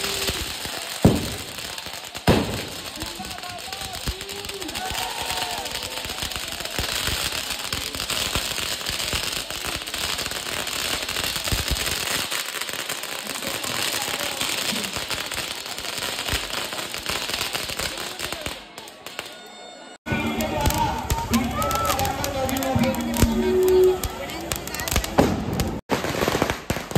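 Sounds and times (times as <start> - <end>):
firecrackers crackling and popping: 0.0 - 26.9.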